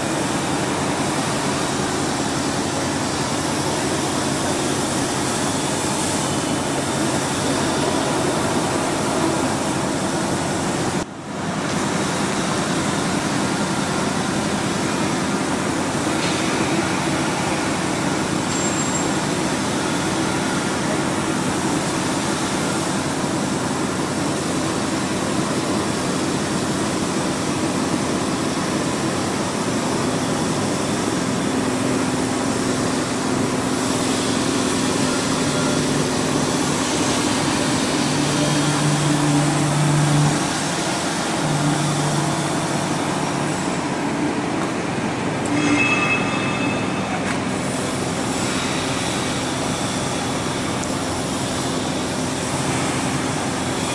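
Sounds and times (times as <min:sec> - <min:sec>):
factory machine hiss and hum: 0:00.0 - 0:53.9.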